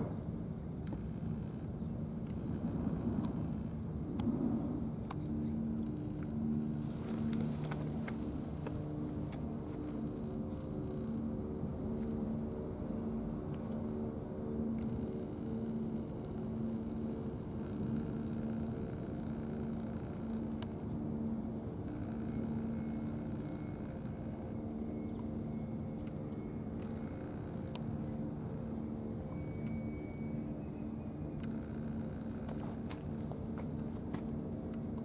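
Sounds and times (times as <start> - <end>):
engine droning: 0.0 - 35.0.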